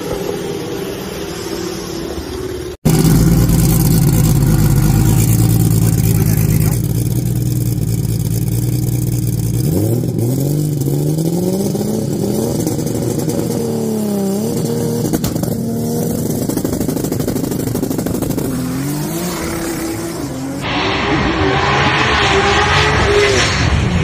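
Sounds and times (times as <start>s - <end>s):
engine revving: 2.8s - 24.0s.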